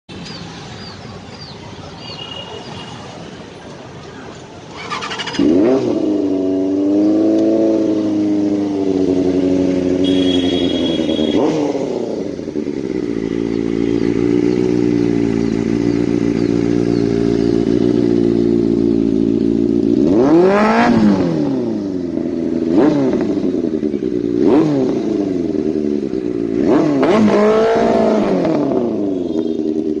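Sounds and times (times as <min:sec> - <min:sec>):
motorcycle engine revving: 0:04.6 - 0:30.0.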